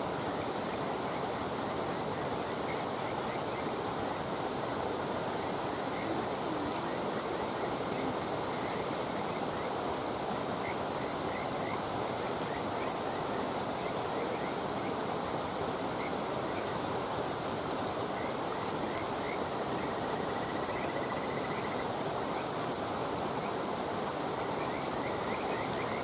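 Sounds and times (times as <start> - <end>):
flowing water rushing: 0.0 - 26.0
faint chirping calls: 0.2 - 15.0, 18.2 - 22.6, 24.3 - 26.0.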